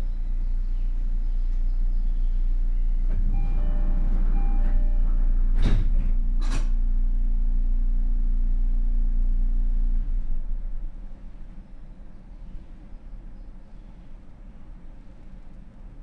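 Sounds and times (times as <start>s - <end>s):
low steady hum: 0.0s - 16.0s
train interior rumble: 0.0s - 16.0s.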